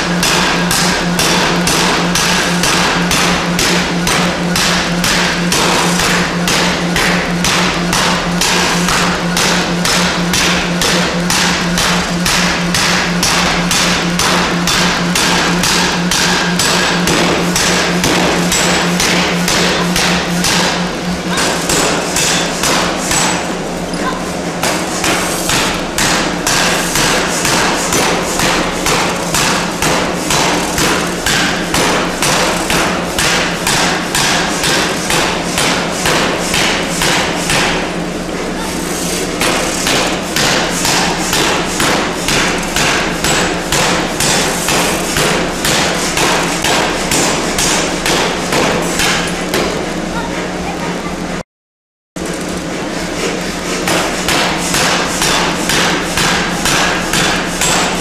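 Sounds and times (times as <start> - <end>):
power hammer striking steel: 0.0 - 38.0, 38.7 - 50.0, 53.2 - 58.0
low machine hum: 0.0 - 51.4.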